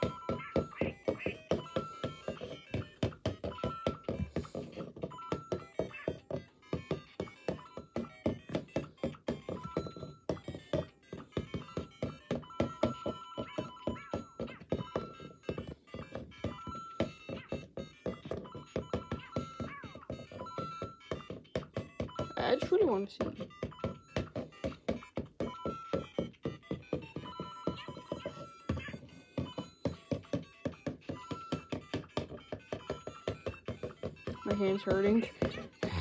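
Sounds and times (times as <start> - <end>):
plastic toy tapping against wall: 0.0 - 36.0.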